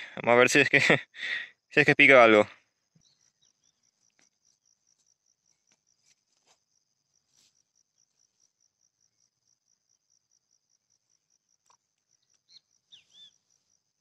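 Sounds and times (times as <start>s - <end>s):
insect chirping trill: 0.0s - 14.0s.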